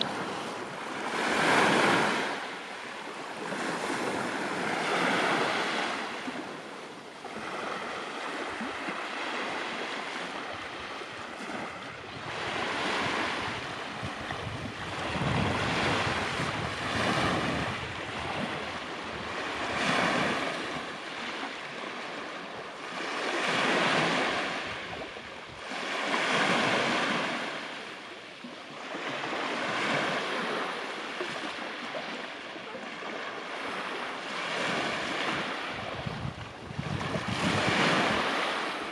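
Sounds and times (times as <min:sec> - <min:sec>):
sea surf breaking on beach: 0:00.0 - 0:38.9.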